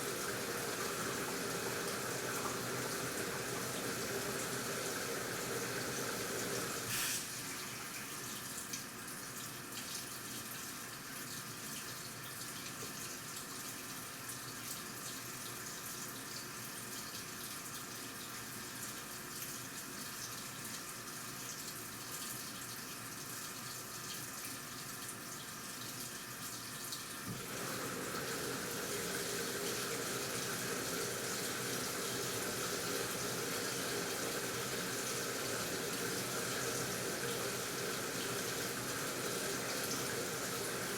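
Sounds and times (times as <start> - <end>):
water running into washing machine: 0.0 - 40.9.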